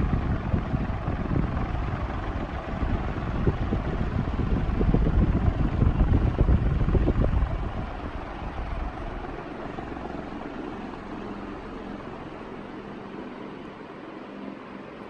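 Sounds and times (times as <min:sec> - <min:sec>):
ceiling fan air buffeting microphone: 0:00.0 - 0:15.0.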